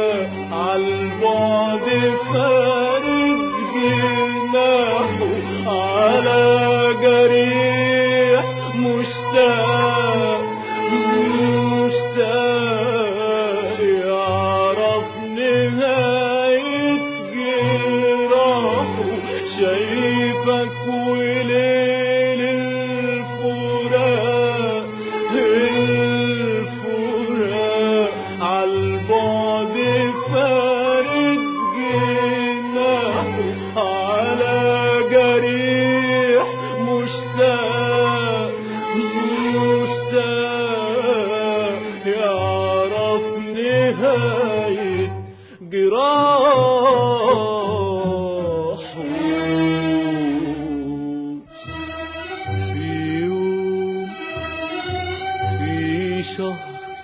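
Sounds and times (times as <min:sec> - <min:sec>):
person singing ornamented melody: 0:00.0 - 0:57.0
string accompaniment: 0:00.0 - 0:57.0.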